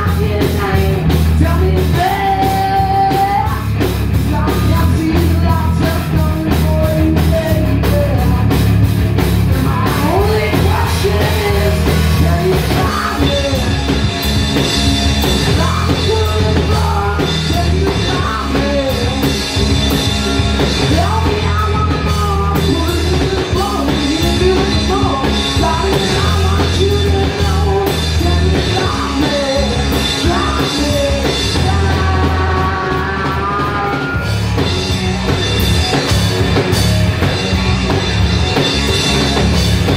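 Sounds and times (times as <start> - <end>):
man singing: 0.0 - 8.7, 9.5 - 14.1, 15.2 - 34.6
bass guitar: 0.0 - 39.9
distorted electric guitar: 0.0 - 39.9
drum kit: 0.0 - 39.9.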